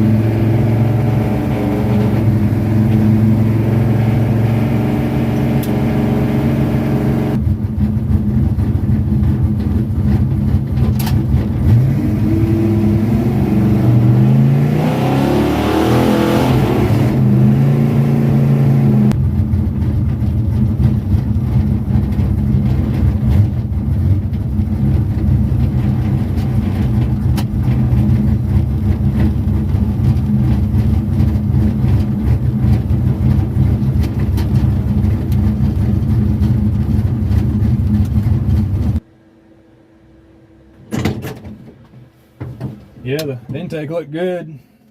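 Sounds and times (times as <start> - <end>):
engine droning: 0.0 - 44.8.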